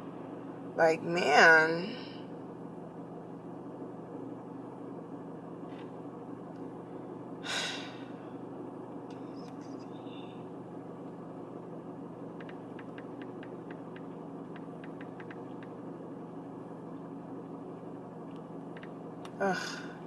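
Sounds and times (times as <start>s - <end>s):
car engine idling hum: 0.0s - 20.0s.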